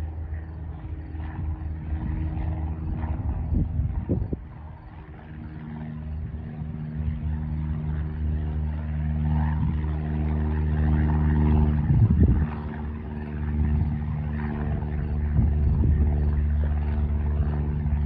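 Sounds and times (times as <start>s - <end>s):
propeller airplane engine drone: 0.0s - 18.0s
wind gusts on microphone: 0.4s - 18.0s.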